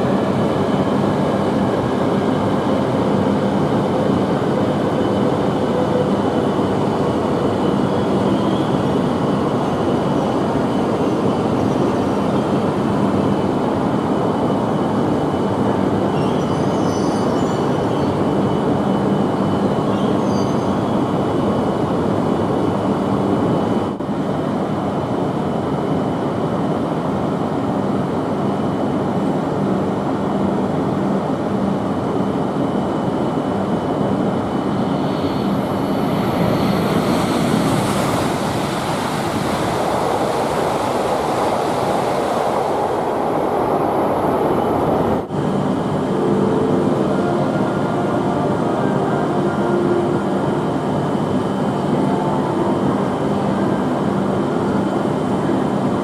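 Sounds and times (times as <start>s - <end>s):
train passing at speed: 0.0s - 56.0s.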